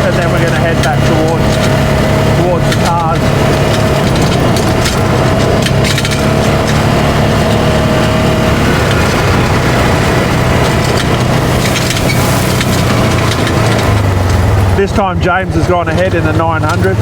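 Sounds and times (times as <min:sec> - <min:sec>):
engine running: 0:00.0 - 0:17.0
sharp cracks and crackles: 0:00.0 - 0:17.0
tyre and body noise: 0:00.0 - 0:17.0.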